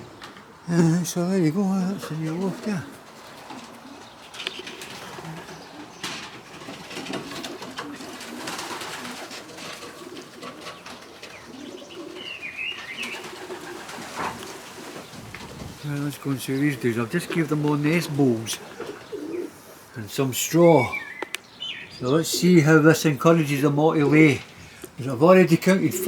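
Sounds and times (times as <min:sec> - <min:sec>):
birds scuffling and clicking: 0:00.0 - 0:26.0
pigeons cooing: 0:00.0 - 0:26.0.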